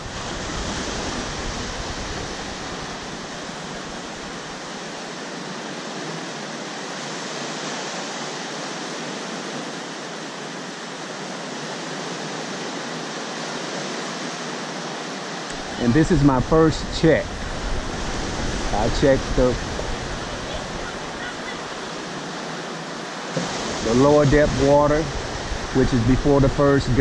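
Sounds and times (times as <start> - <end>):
waves breaking over shallow water: 0.0 - 27.0.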